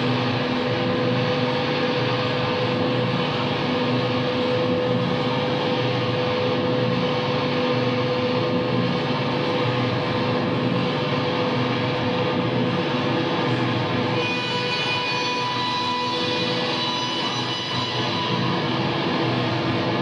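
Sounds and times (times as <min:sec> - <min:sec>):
distorted guitar drone: 0:00.0 - 0:20.0.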